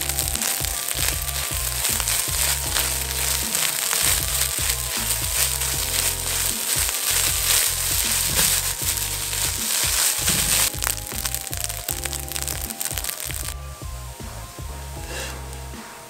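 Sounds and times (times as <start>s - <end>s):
rice sizzling in a wok: 0.0s - 13.6s
background music: 0.0s - 16.0s.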